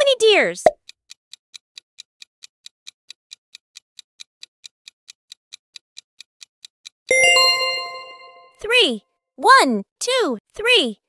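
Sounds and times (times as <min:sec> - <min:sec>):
clock ticking: 0:00.0 - 0:10.8.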